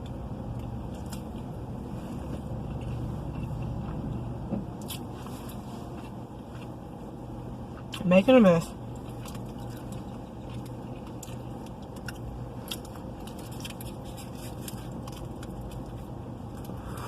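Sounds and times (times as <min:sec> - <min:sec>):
person chewing food: 0:00.0 - 0:08.0, 0:08.9 - 0:17.0
steady low hum: 0:00.0 - 0:17.0.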